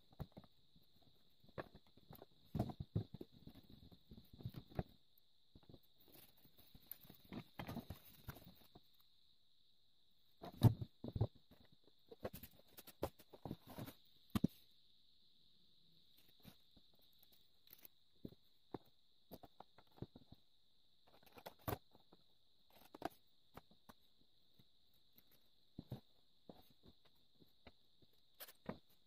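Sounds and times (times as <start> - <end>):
faint high-pitched whine: 0.0 - 29.0.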